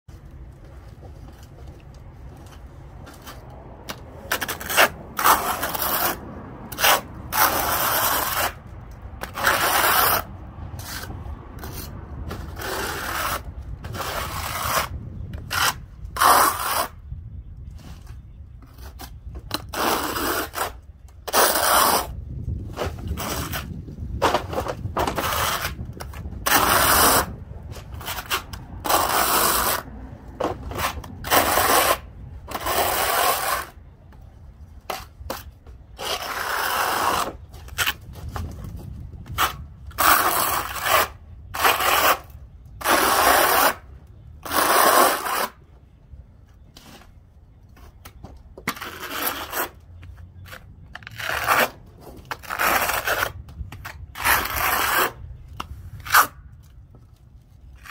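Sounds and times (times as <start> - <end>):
trowel scraping over concrete: 0.9 - 17.1, 17.7 - 45.7, 46.6 - 57.0.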